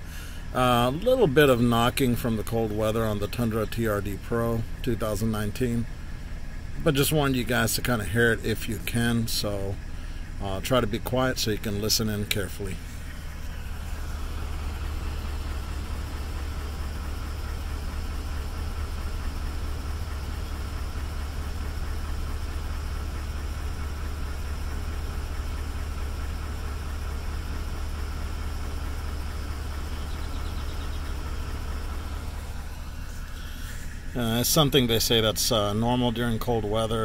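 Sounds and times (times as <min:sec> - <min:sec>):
engine idling with knock: 0:00.0 - 0:37.0.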